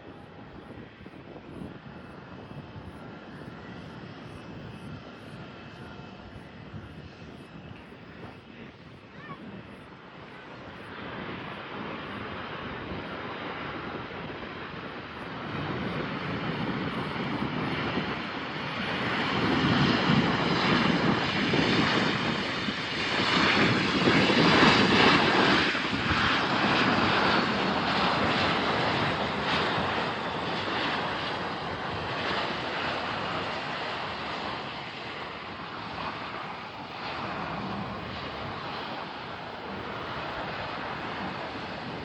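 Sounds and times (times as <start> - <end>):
airliner engines passing by: 0.0 - 42.0.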